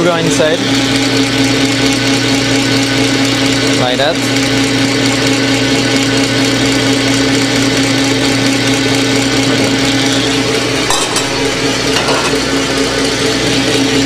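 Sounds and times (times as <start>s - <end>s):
stand mixer whisking: 0.0s - 14.0s.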